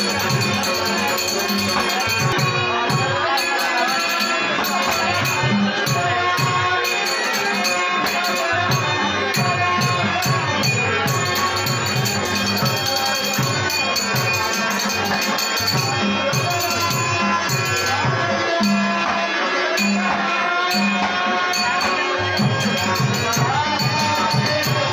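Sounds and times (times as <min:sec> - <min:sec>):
harmonium melody: 0:00.0 - 0:24.9
metallic jingling percussion: 0:00.0 - 0:24.9
steady drum beat: 0:00.0 - 0:24.9.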